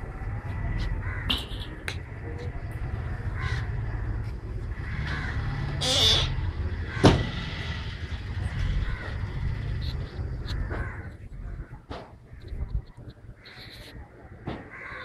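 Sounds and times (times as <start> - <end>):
harsh bird calls: 0.6 - 15.0.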